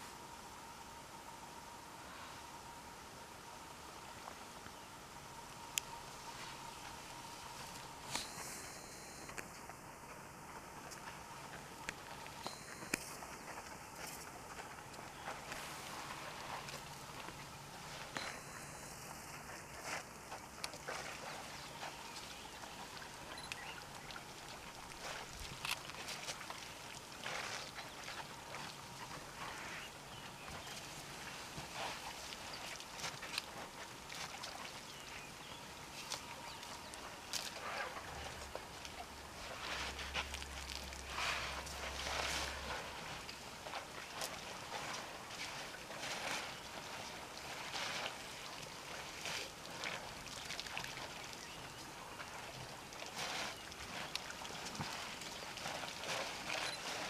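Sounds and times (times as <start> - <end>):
water splashing and sloshing: 3.9 - 57.0.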